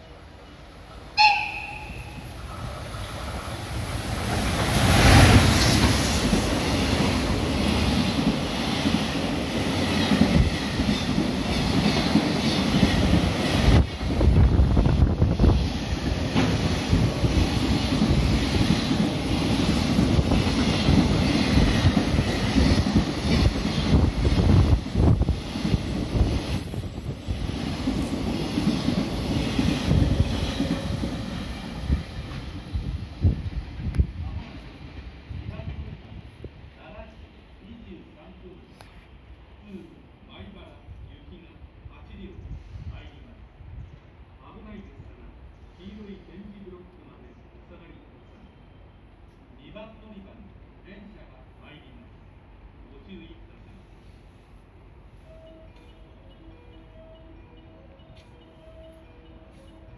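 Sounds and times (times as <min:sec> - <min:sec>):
freight train passing at speed: 0:00.0 - 0:59.9.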